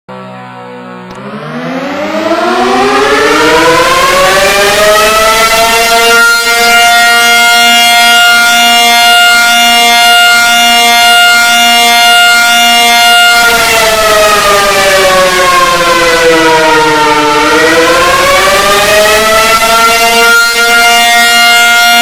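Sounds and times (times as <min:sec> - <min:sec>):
alarm siren: 0:00.1 - 0:22.0.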